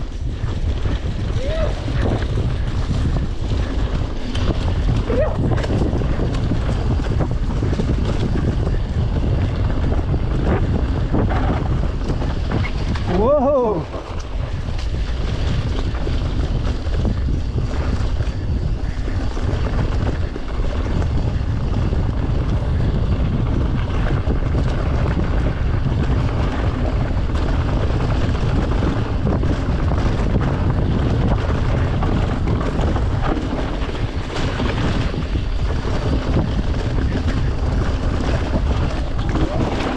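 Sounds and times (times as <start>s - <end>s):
bike rattling and knocking: 0.0s - 39.9s
bike tyres rumbling: 0.0s - 39.9s
wind on microphone: 0.0s - 39.9s.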